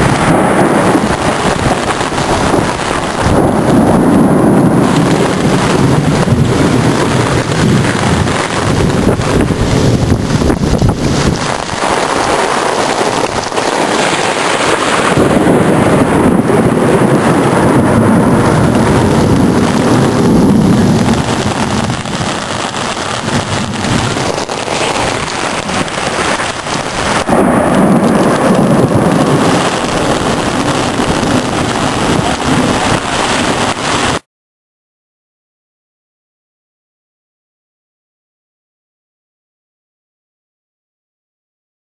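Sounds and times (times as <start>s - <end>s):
thunder rumbling: 0.0s - 34.2s
heavy rain pouring: 0.0s - 34.3s.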